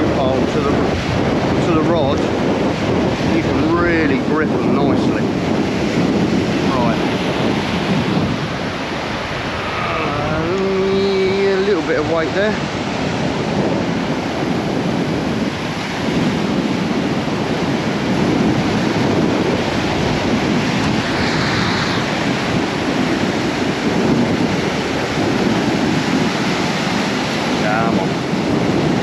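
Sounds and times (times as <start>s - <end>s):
surf breaking on beach: 0.0s - 29.0s
wind buffeting microphone: 0.0s - 29.0s.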